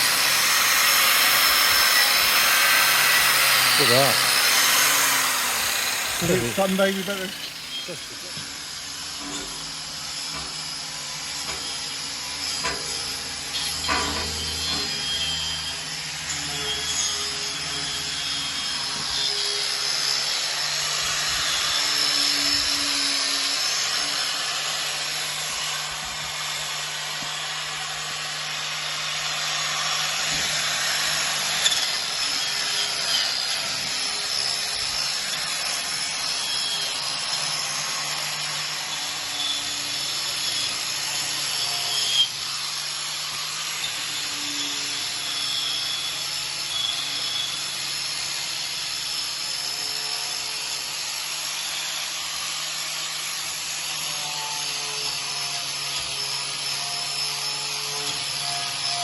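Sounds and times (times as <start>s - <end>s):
handheld power tool running: 0.0s - 59.0s.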